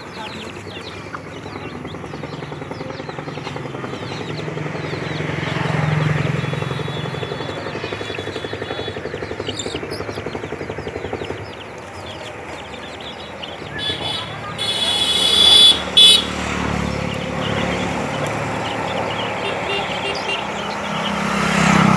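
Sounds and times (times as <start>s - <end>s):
chicks peeping: 0.0s - 21.9s
vehicle engine passing by: 0.0s - 21.9s.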